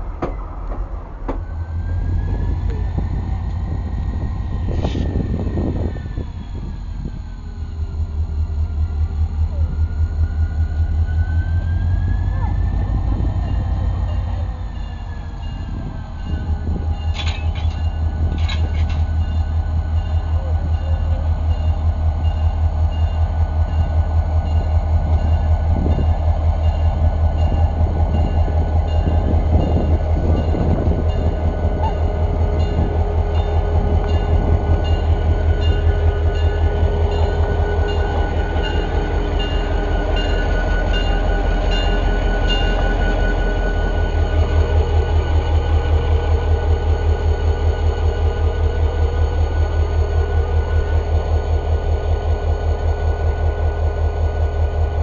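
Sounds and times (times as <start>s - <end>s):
train rumbling with pulsing beat: 0.0s - 55.0s.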